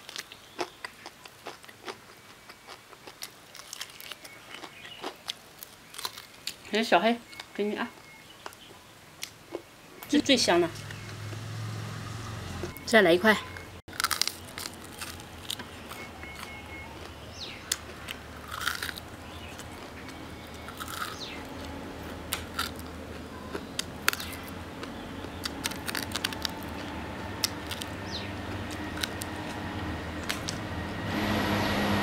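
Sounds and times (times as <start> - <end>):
crunching of crispy pork: 0.0 - 10.1, 13.9 - 29.6, 30.2 - 30.6.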